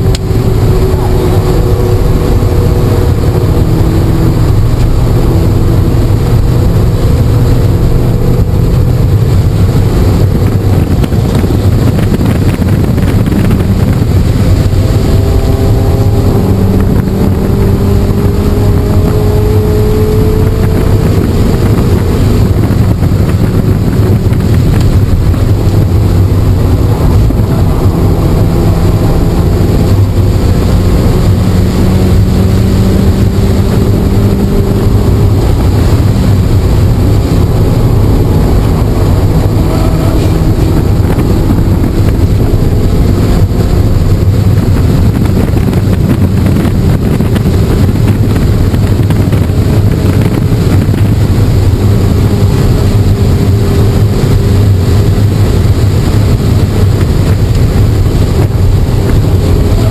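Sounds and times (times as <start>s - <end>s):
car engine running hard: 0.0s - 59.9s
wind and road noise: 0.0s - 59.9s.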